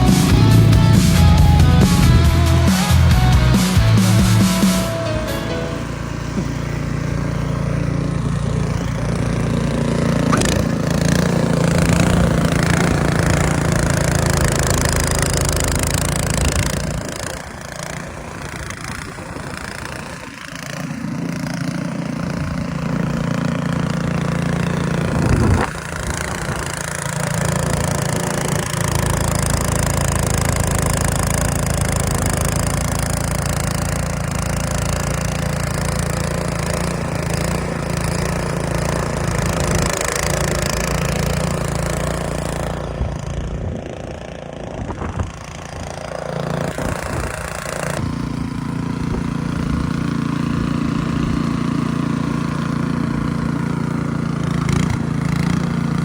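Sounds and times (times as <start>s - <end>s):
engine running with low hum: 0.0s - 56.0s.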